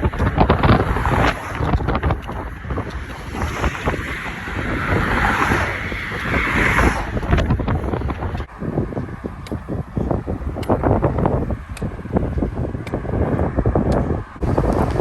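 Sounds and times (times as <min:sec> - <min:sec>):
vehicle passing on road: 0:00.0 - 0:15.0
wind buffeting microphone: 0:00.0 - 0:15.0.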